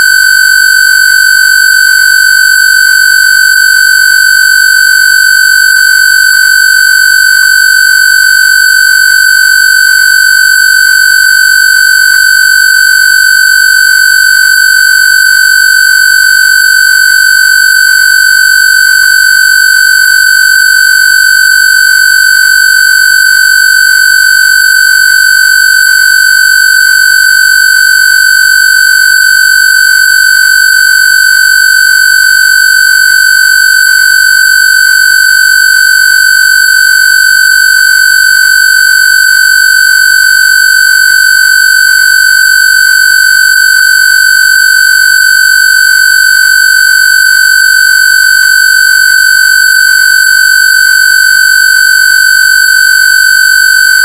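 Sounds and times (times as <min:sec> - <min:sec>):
high-pitched electronic square-wave tone: 0:00.0 - 0:54.0.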